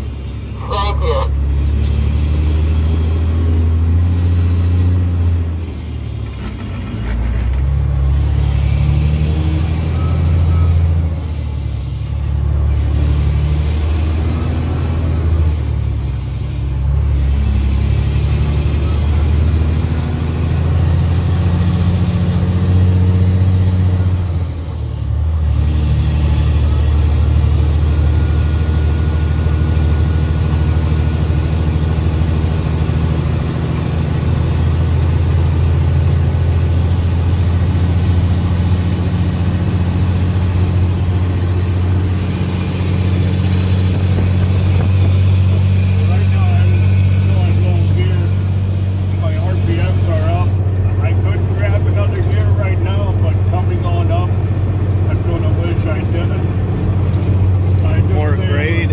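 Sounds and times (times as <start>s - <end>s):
truck diesel engine under load: 0.0s - 58.9s.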